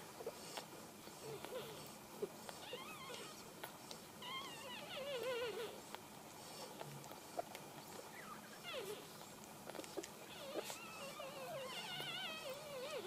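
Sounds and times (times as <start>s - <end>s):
puppies squeaking and whimpering: 0.3s - 13.0s.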